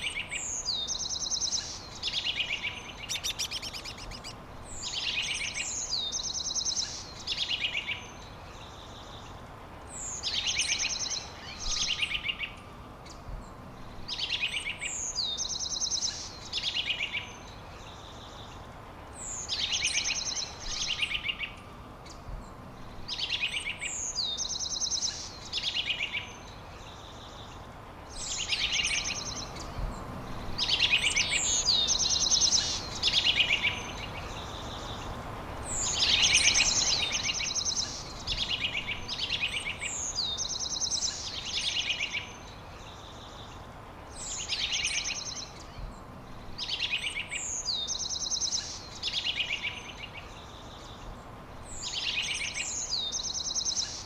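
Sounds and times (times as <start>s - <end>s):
background hiss: 0.0s - 54.0s
songbirds singing: 0.0s - 54.0s.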